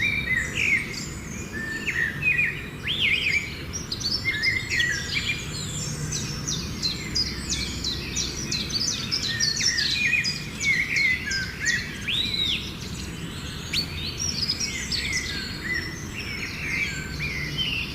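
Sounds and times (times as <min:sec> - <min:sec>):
songbirds chirping and singing: 0:00.0 - 0:17.9.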